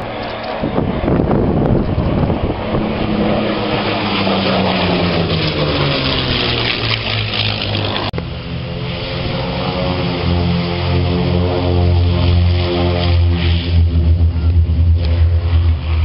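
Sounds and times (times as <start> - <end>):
propeller planes flying past: 0.0 - 16.0.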